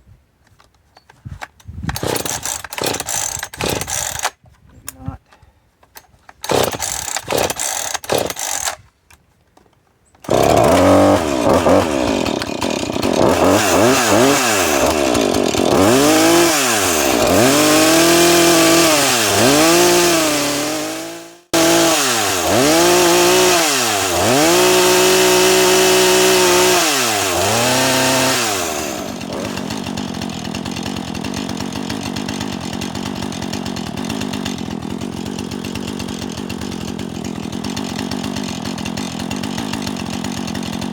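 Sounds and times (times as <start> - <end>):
chainsaw pull-start cord: 1.4 - 4.4, 5.9 - 8.9, 10.2 - 40.9
chainsaw engine revving: 2.0 - 4.3, 6.4 - 8.8, 10.2 - 40.9.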